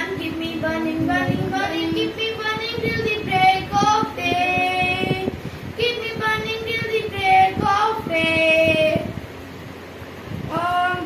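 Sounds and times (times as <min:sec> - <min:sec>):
girl singing a prayer: 0:00.0 - 0:09.2, 0:10.4 - 0:11.0.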